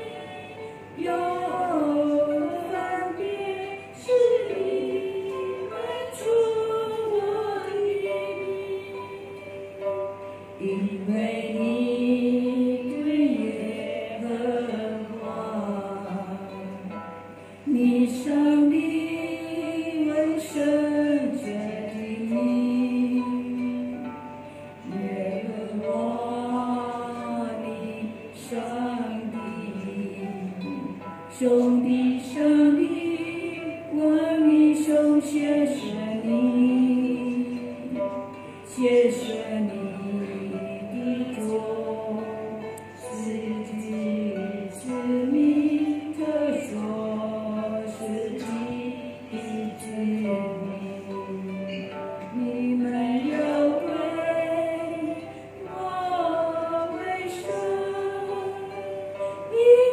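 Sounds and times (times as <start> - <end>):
women singing: 0.0 - 9.9, 10.6 - 59.9
plucked harp: 0.0 - 59.9.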